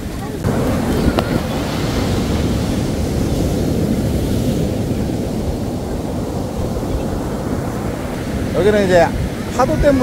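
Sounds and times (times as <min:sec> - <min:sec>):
surf breaking on beach: 0:00.0 - 0:10.0
wind rumbling on microphone: 0:00.0 - 0:10.0.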